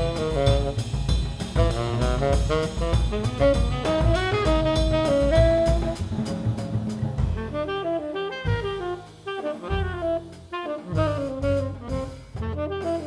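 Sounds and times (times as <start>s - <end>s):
double bass: 0.0s - 13.0s
drum kit with ride cymbal: 0.0s - 13.0s
tenor saxophone melody: 0.0s - 13.0s.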